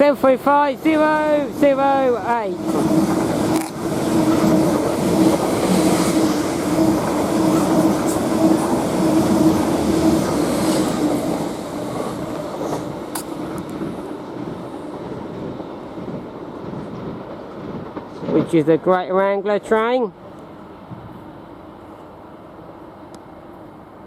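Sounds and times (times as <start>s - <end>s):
train wheels rumbling on rails: 0.0s - 21.5s
electric train hum: 0.0s - 24.0s.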